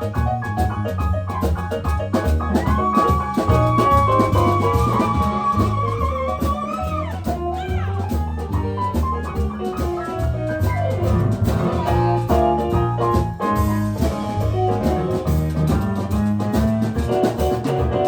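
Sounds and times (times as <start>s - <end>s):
bass line: 0.0s - 18.0s
blues band playing: 0.0s - 18.0s
drums: 0.0s - 18.0s.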